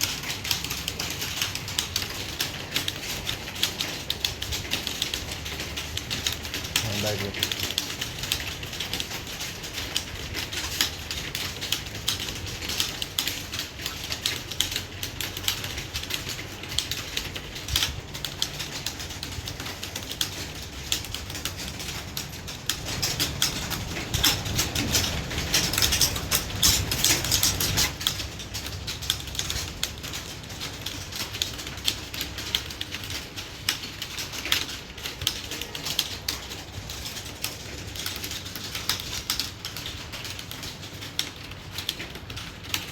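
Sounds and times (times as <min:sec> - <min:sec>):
fast typing key clicks: 0:00.0 - 0:42.9.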